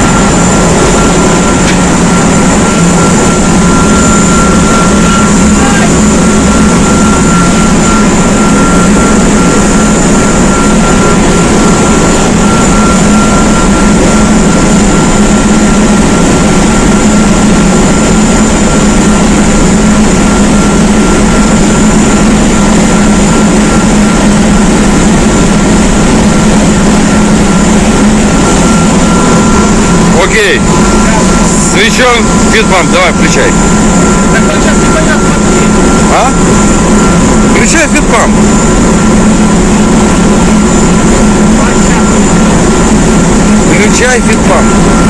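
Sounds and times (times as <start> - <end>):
engine room machinery din: 0.0 - 45.0
steady high whine: 0.0 - 45.0.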